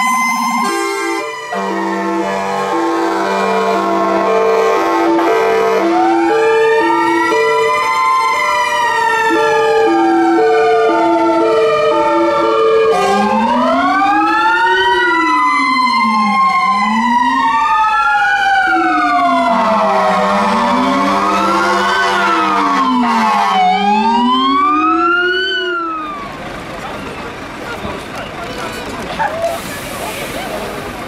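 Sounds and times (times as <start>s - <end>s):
two-tone hi-lo siren horn: 0.0s - 17.6s, 18.2s - 26.3s
wailing fire engine sirens: 0.0s - 31.0s.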